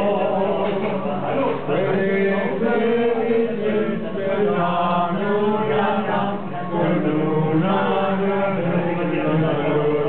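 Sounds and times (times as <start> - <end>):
group of people singing: 0.0 - 10.0.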